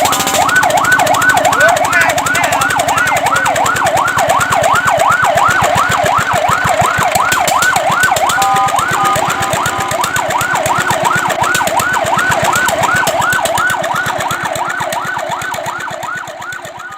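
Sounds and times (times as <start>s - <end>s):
fire truck siren warbling: 0.0s - 16.9s.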